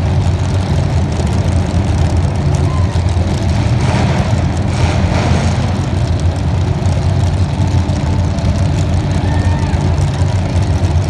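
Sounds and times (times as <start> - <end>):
racing car engine running: 0.0 - 11.0.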